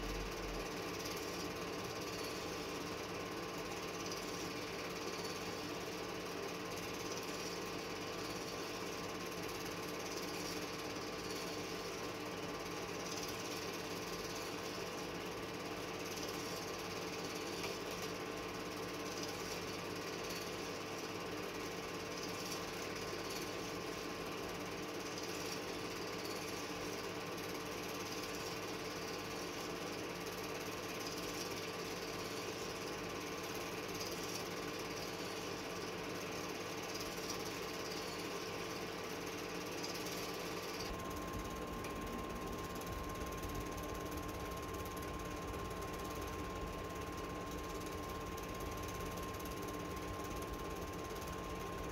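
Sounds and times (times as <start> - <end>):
film projector clatter: 0.0 - 51.9
projector hum: 0.0 - 51.9.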